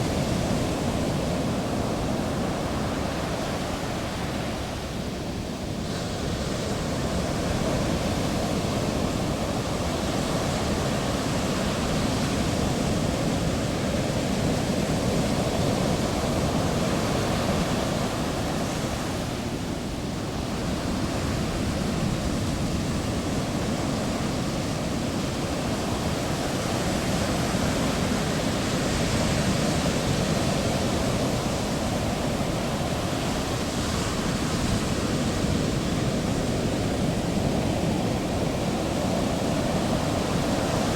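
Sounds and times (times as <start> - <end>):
ocean waves breaking ashore: 0.0 - 40.9.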